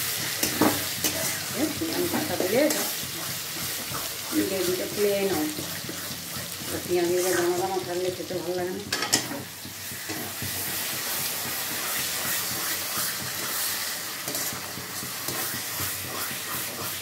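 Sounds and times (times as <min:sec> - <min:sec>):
metal spatula scraping pan: 0:00.0 - 0:17.0
paste sizzling in a pan: 0:00.0 - 0:17.0.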